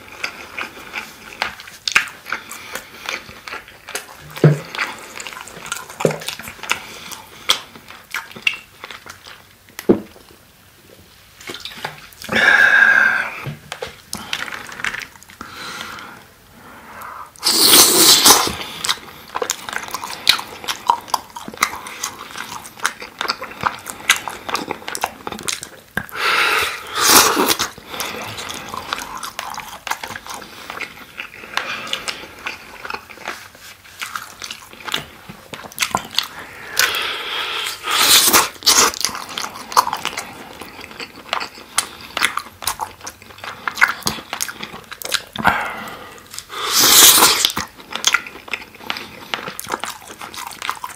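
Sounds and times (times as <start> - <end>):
biting and chewing food: 0.0 - 10.2, 17.4 - 50.9.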